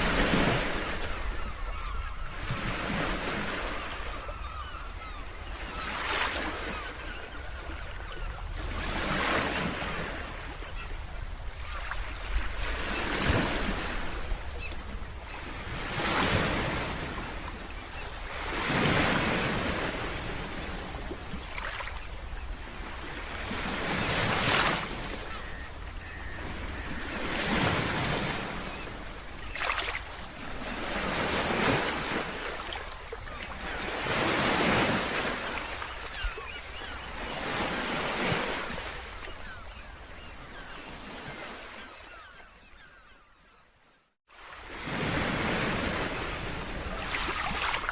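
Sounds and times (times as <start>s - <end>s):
sea waves breaking on shore: 0.0s - 43.0s, 44.3s - 47.9s.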